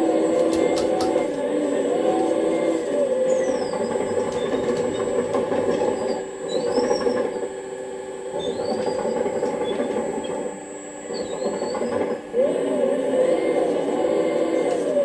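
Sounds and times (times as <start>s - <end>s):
electric motor and hydraulic pump whirring: 0.0s - 15.0s.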